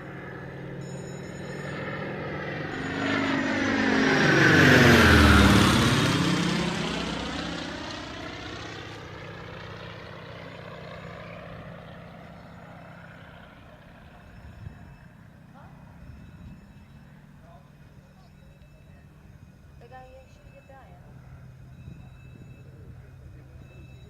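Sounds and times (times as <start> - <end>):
aircraft flying low past: 0.0 - 24.0.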